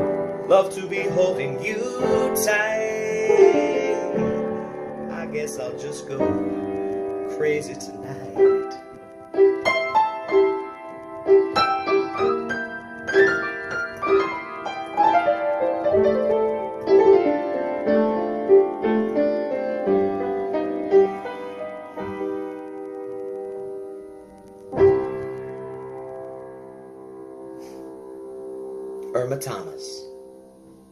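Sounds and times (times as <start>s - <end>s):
solo piano: 0.0s - 30.9s.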